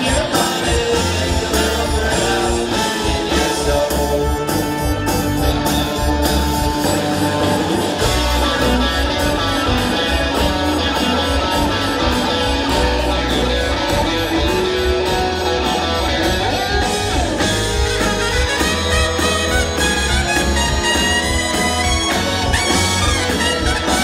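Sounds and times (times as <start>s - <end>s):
bass guitar: 0.0s - 24.0s
electric guitar: 0.0s - 24.0s
steady drum beat: 0.0s - 24.0s.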